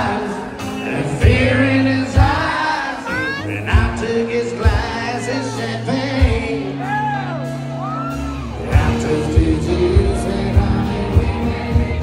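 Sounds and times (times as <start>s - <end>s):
people singing: 0.0s - 7.2s, 8.5s - 12.0s
bass notes: 0.0s - 12.0s
live band music: 0.0s - 12.0s.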